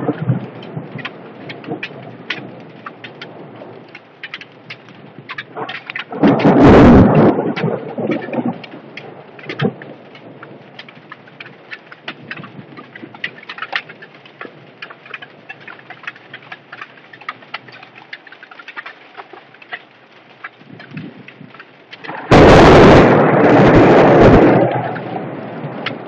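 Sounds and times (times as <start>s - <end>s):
hailstones striking hard surfaces: 0.0s - 26.0s
rain hissing: 0.0s - 26.0s.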